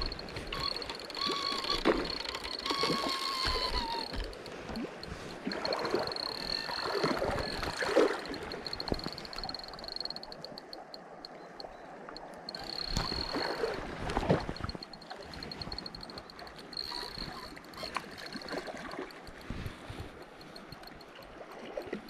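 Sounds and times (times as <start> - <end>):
fishing reel whirring: 0.0 - 22.0.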